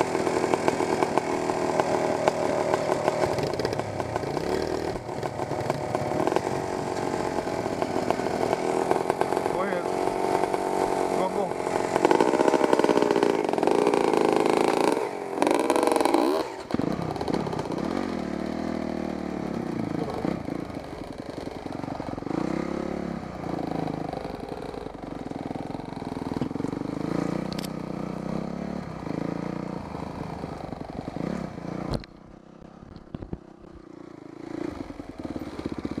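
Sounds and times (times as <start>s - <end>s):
dirt bike engine revving: 0.0s - 32.0s, 33.8s - 36.0s.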